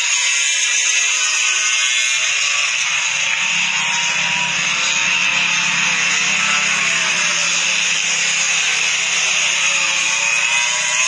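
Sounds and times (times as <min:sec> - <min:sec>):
racing motorcycle engines screaming: 0:00.0 - 0:11.0.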